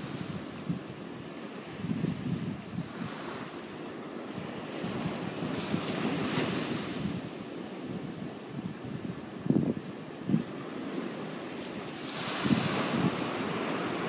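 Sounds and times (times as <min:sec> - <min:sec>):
ocean surf washing ashore: 0:00.0 - 0:14.0
wind buffeting microphone: 0:00.0 - 0:14.0.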